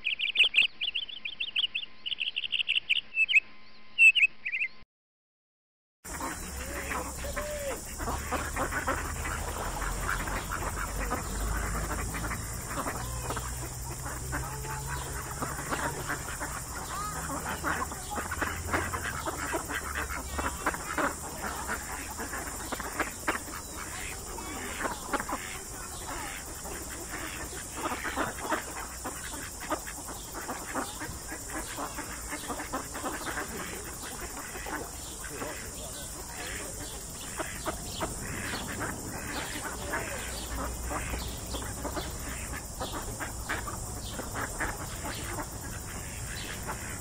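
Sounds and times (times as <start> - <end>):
flock of birds calling: 6.1 - 47.0.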